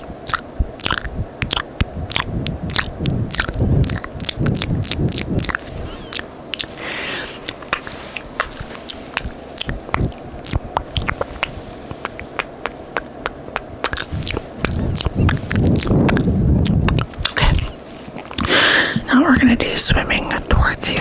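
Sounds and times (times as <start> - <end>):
wet mouth clicks and kisses: 0.0 - 18.8.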